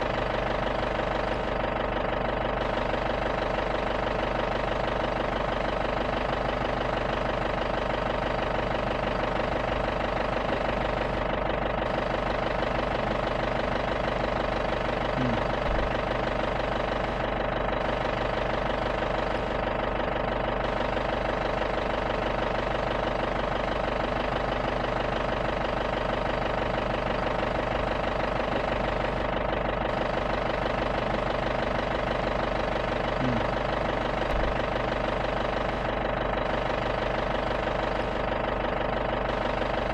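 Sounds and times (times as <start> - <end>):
jeep engine idling: 0.0 - 39.9.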